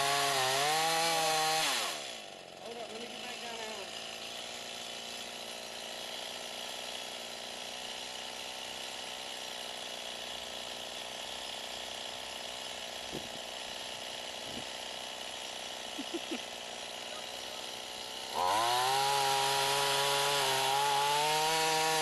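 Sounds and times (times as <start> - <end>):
chainsaw cutting tree trunk: 0.0 - 22.0.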